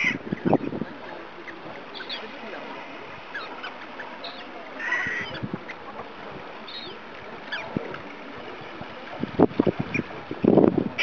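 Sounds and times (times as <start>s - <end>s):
gulls calling: 0.0s - 9.0s
steady background hiss: 0.0s - 11.0s.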